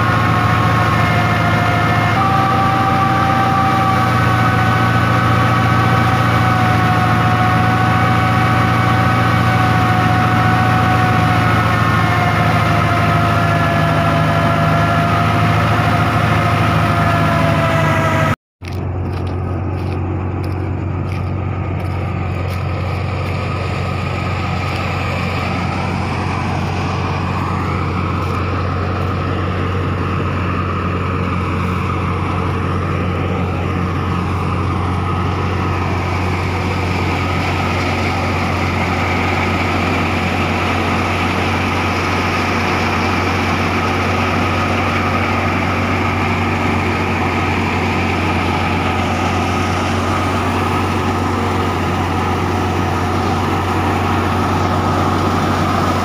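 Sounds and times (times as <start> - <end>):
thresher drum and blower whirring: 0.0 - 56.0
tractor engine droning: 0.0 - 56.0.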